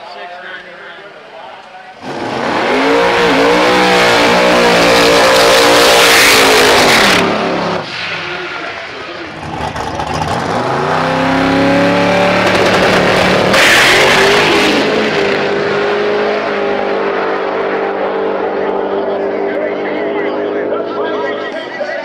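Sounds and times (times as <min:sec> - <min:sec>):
drag car engine accelerating: 0:02.0 - 0:21.6.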